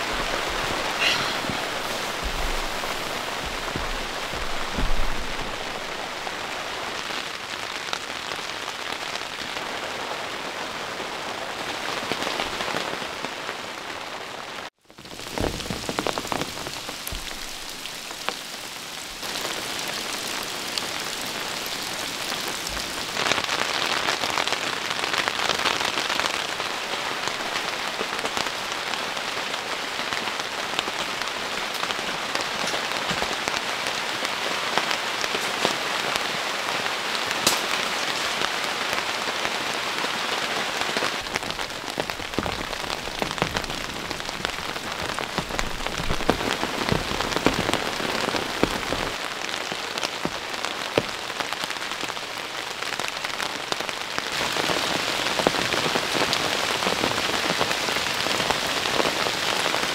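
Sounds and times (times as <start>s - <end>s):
heavy rain on tent fabric: 0.0s - 59.9s.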